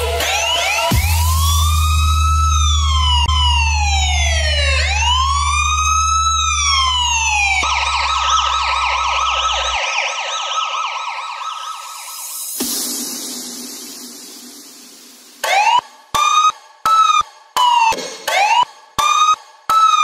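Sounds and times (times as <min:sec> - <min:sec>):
police siren wailing and yelping: 0:00.0 - 0:12.5, 0:15.4 - 0:20.0.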